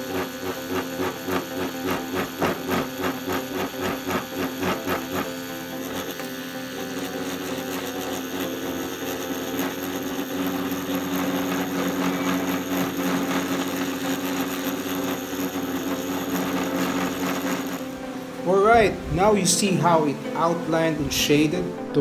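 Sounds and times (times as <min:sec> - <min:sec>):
rotary tattoo pen motor hum: 0:00.0 - 0:18.5.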